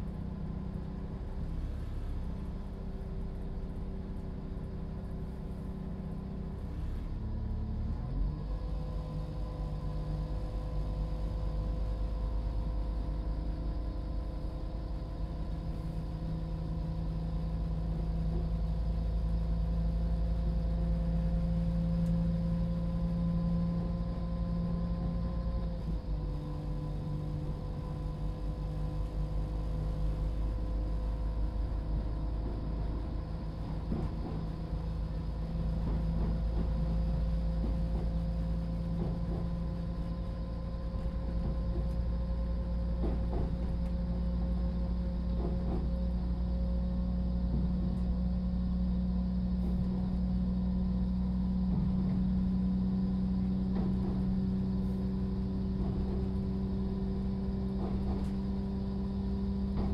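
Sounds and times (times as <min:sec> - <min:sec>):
diesel engine droning: 0:00.0 - 0:59.9
train wheels rumbling on track: 0:00.0 - 0:59.9.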